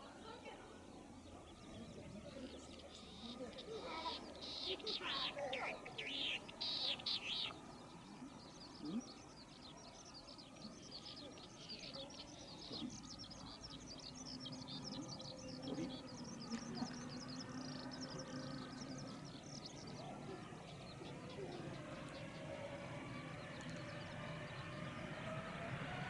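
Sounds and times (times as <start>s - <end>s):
faint low hum: 0.0s - 26.0s
small birds chirping: 0.0s - 26.0s.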